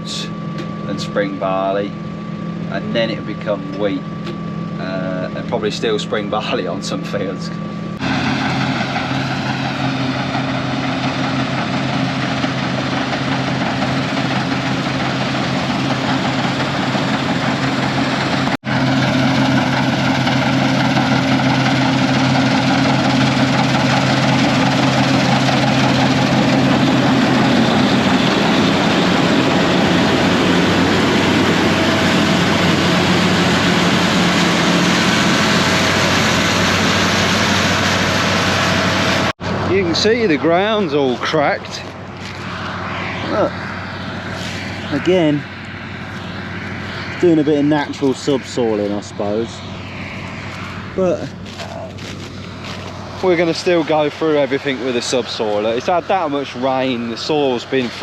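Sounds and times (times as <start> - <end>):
engine running: 0.0 - 58.0
loud rushing noise: 7.8 - 58.0.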